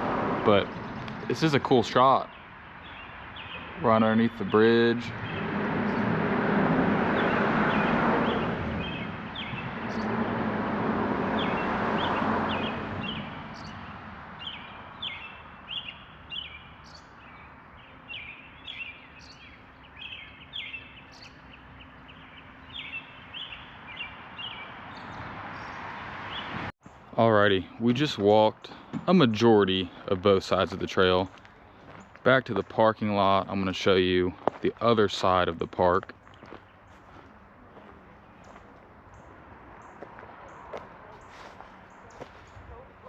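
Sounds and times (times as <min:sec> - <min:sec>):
birds chirping: 0:00.0 - 0:43.0
traffic rushing on bridge: 0:00.0 - 0:43.0.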